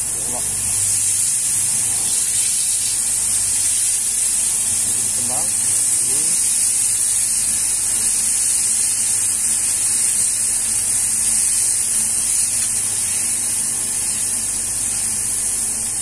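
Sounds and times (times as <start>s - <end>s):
burger patties sizzling on griddle: 0.0s - 16.0s.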